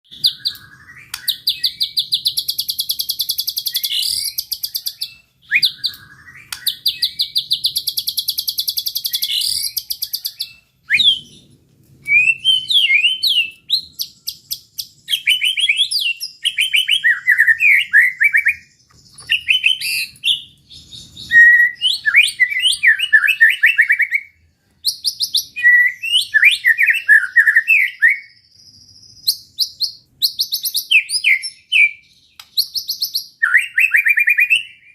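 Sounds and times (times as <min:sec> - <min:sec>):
songbird trills and whistles: 0:00.0 - 0:34.9.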